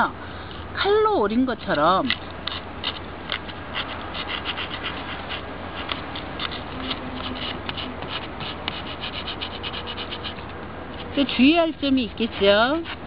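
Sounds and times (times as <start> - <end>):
sandpaper scratching: 2.5 - 13.0.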